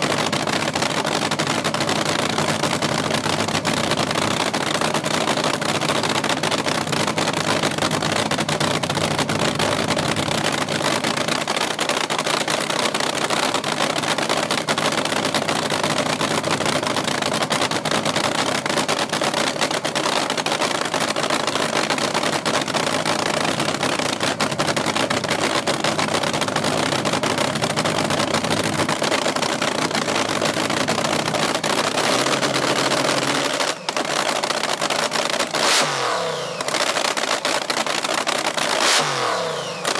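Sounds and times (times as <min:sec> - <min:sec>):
drag racing engine idling: 0:00.0 - 0:39.9.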